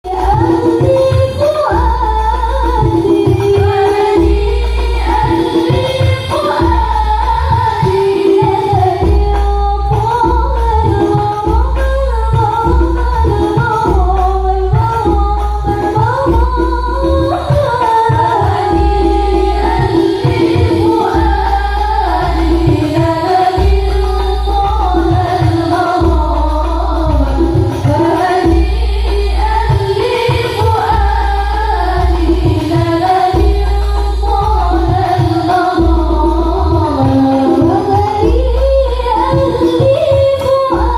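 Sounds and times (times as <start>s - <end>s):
frame drums beating: 0.0s - 40.9s
woman singing: 0.0s - 40.9s.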